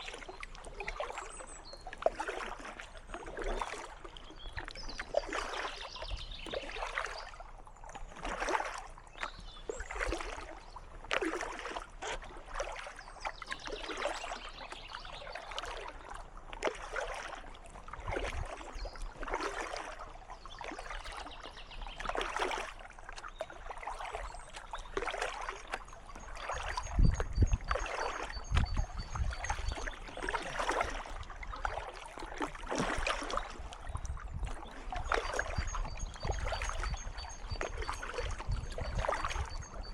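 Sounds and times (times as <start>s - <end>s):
kayak paddle splashing in water: 0.0s - 39.9s.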